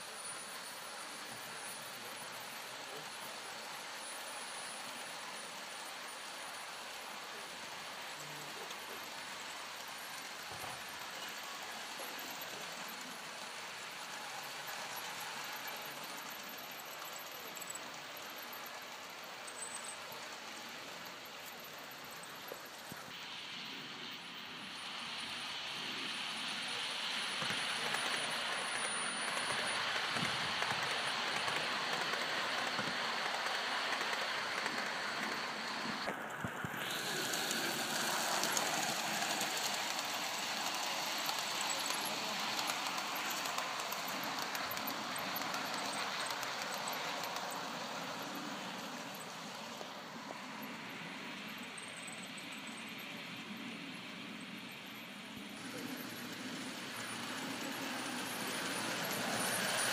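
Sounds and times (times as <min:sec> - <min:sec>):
model train rolling on track: 0:00.0 - 0:59.9.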